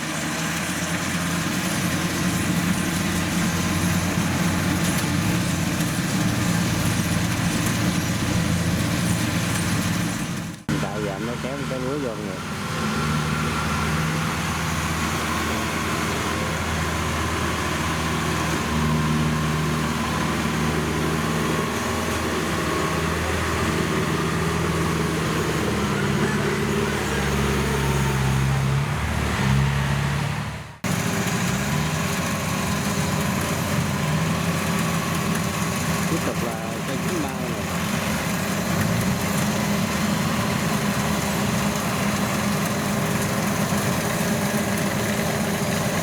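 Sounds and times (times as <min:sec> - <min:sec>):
harvester engine running: 0:00.0 - 0:46.0.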